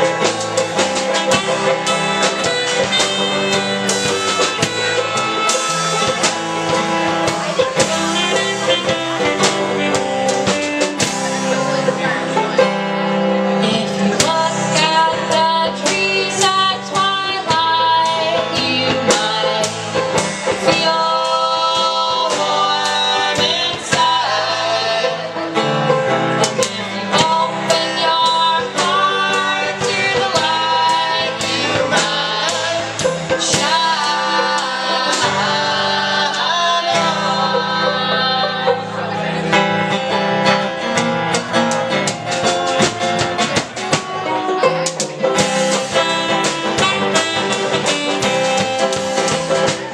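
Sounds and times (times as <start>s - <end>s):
acoustic folk band playing: 0.0s - 49.9s
plucked guitar strings: 0.0s - 49.9s.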